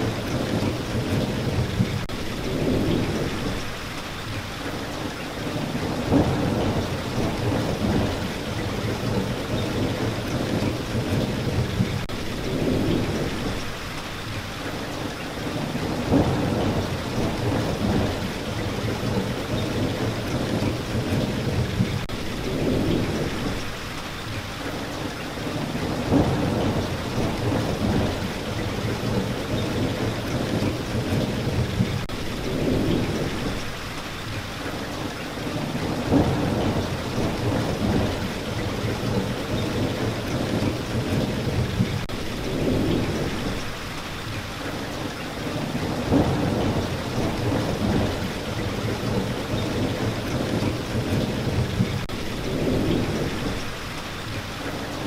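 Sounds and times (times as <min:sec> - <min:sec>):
thunder rumbling: 0:00.0 - 0:03.9, 0:05.4 - 0:13.8, 0:15.4 - 0:23.8, 0:25.4 - 0:33.8, 0:35.4 - 0:43.8, 0:45.4 - 0:54.0
steady rain: 0:00.0 - 0:55.0.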